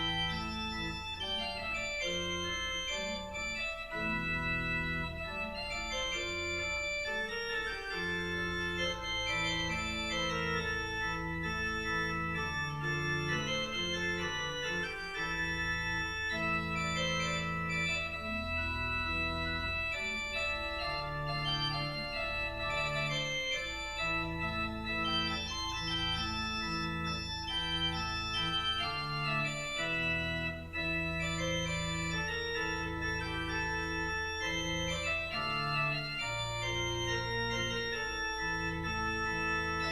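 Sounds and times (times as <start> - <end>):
church organ playing chords: 0.0 - 39.9.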